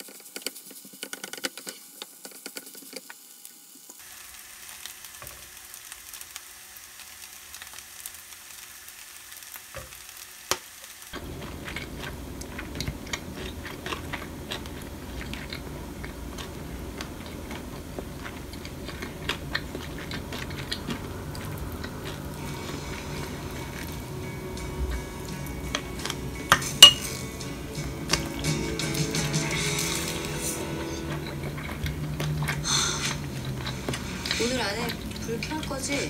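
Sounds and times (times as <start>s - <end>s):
rice sizzling in a frying pan: 0.0s - 36.0s.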